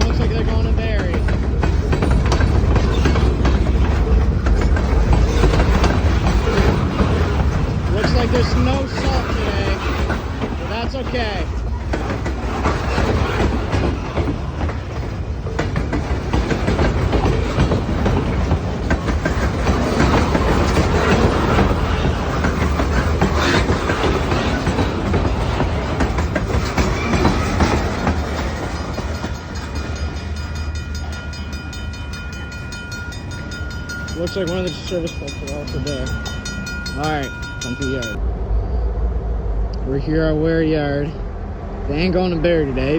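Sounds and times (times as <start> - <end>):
train wheels rumbling and clicking: 0.0 - 38.3.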